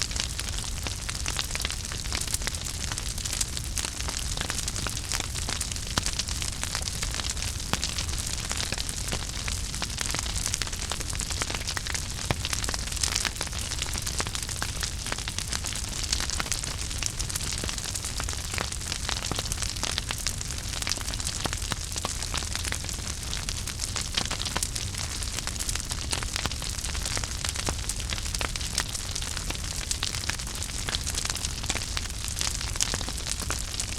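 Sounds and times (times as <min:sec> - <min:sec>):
fireplace fire crackling: 0:00.0 - 0:33.9.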